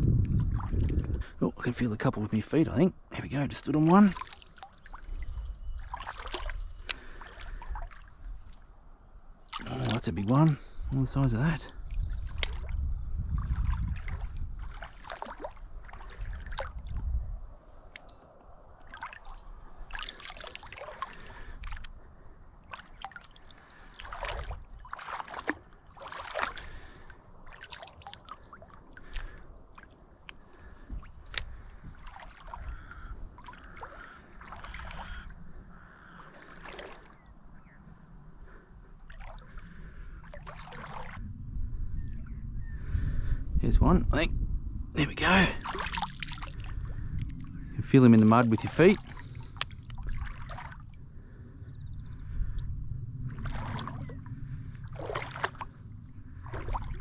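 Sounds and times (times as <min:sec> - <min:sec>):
shallow water sloshing and splashing: 0:00.0 - 0:02.6, 0:03.6 - 0:43.3, 0:45.2 - 0:57.0.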